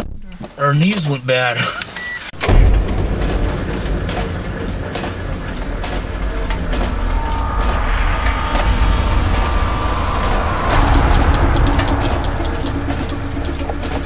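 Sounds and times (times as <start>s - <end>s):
faint steady whine: 2.4s - 14.0s
vehicle rumble in motion: 2.4s - 14.0s.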